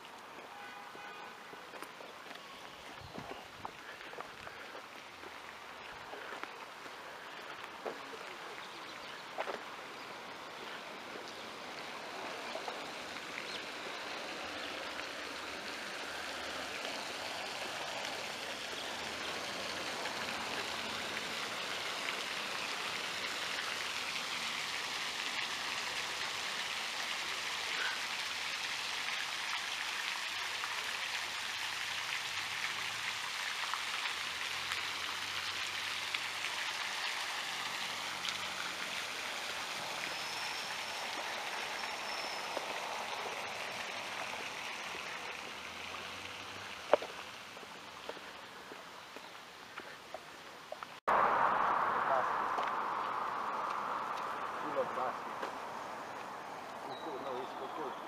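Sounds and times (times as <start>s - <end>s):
fountain splashing into pool: 0.0s - 3.0s, 3.7s - 58.0s.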